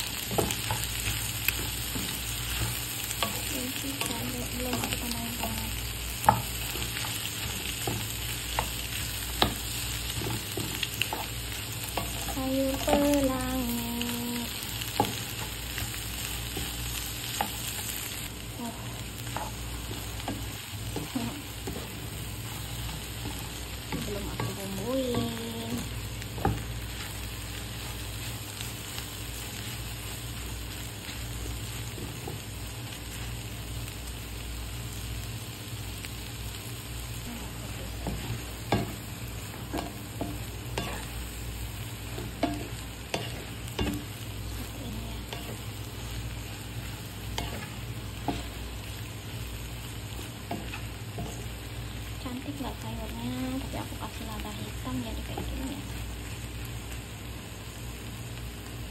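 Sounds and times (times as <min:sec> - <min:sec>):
vegetables sizzling in a wok: 0:00.0 - 0:58.9.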